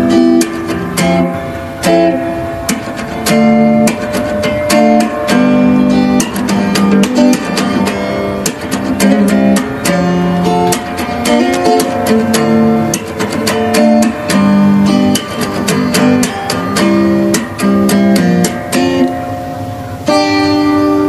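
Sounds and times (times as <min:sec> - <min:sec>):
acoustic guitar music: 0:00.0 - 0:21.0.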